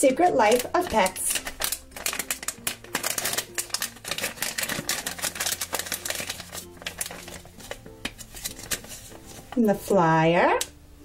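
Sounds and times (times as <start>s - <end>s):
soft background music: 0.0s - 11.0s
foil bag crinkling: 0.4s - 9.6s.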